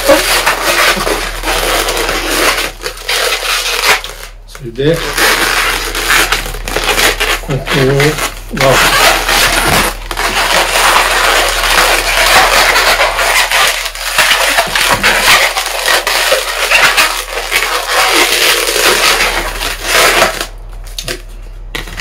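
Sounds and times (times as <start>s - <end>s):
balloons squeaking and rubbing: 0.0s - 22.0s.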